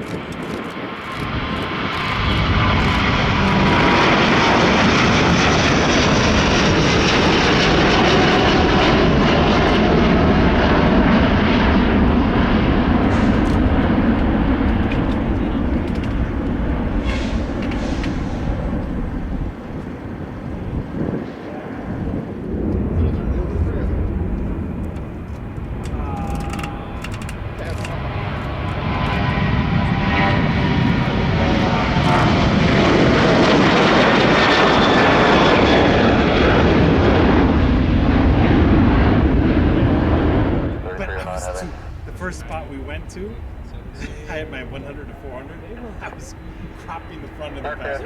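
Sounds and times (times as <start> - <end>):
jet engines passing: 0.0 - 48.0.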